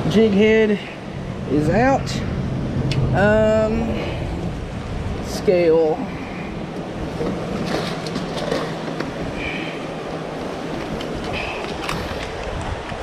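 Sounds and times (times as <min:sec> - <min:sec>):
fast creek current rushing: 0:00.0 - 0:13.0.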